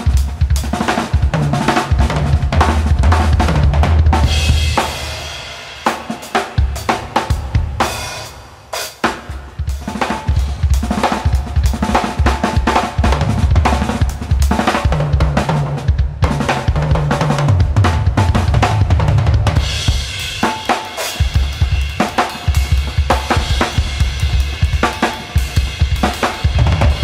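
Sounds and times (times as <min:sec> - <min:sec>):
acoustic drum kit playing: 0:00.0 - 0:27.0
tom drum fill: 0:00.0 - 0:27.0.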